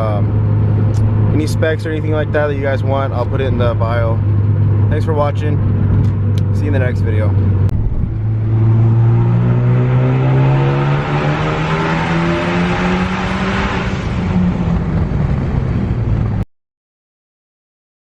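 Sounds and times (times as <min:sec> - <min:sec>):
car engine accelerating: 0:00.0 - 0:16.4.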